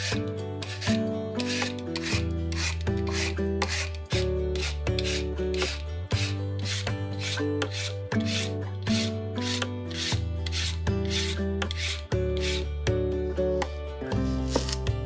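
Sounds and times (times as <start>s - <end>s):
background music with shaker beat: 0.0s - 15.0s.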